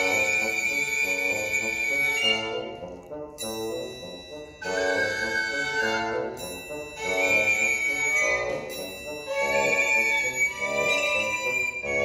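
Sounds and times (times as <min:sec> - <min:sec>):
bassoon: 0:00.0 - 0:12.0
violin: 0:00.0 - 0:12.0.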